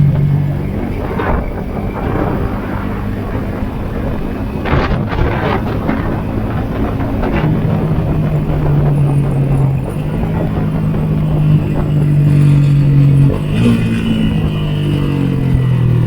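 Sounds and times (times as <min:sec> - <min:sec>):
motorcycle engine running: 0:00.0 - 0:16.0
wind on microphone: 0:00.0 - 0:16.0.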